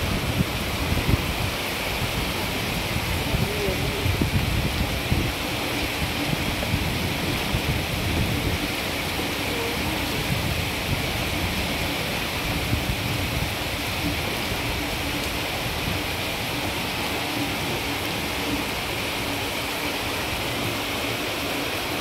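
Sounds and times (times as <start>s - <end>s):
floodwater running down street: 0.0s - 22.0s
heavy rain: 0.0s - 22.0s.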